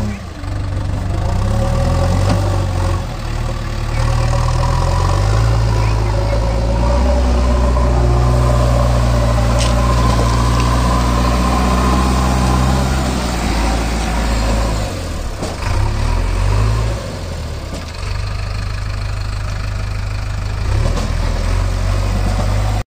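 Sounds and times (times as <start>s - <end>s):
diesel engine running: 0.0s - 22.8s.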